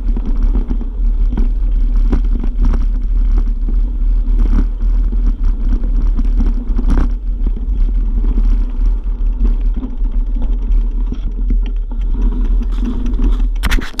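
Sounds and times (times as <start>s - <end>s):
tyres crunching over gravel: 0.0s - 13.6s
bike rattling: 0.0s - 14.0s
wind rumble on camera: 0.0s - 14.0s.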